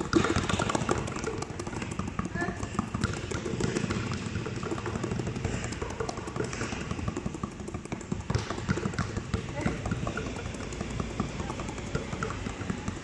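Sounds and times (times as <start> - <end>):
basketball bouncing on concrete: 0.0 - 13.0.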